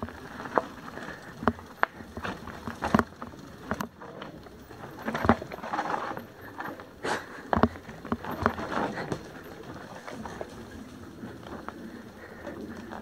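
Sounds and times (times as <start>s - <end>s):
tyres on dirt: 0.0s - 13.0s
wheels knocking on rocks: 0.0s - 13.0s.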